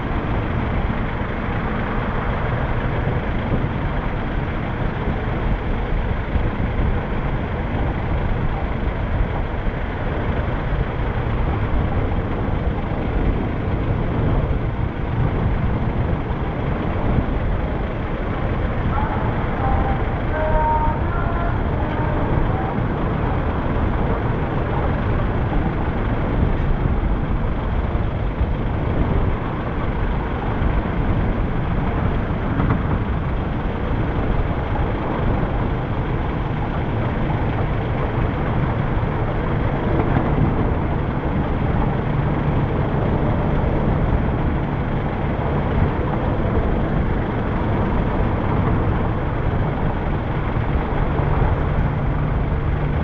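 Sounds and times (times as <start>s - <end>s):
low engine hum: 0.0s - 53.0s
traffic rumble of engines and tyres: 0.0s - 53.0s.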